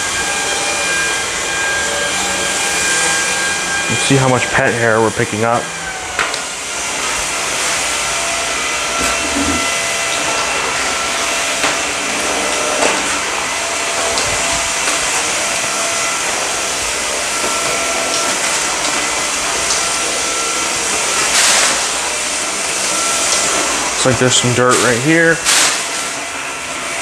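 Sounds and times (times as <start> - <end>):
stick vacuum running on carpet: 0.0 - 27.0.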